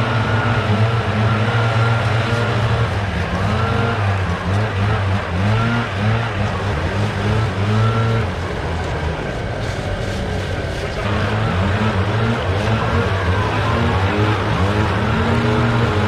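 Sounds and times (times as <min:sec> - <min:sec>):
gas engine running: 0:00.0 - 0:16.0.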